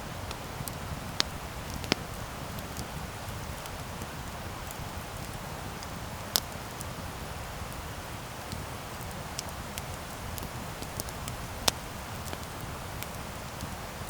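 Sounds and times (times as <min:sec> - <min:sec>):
campfire wood crackling: 0:00.0 - 0:14.0
fire pops: 0:00.0 - 0:14.0.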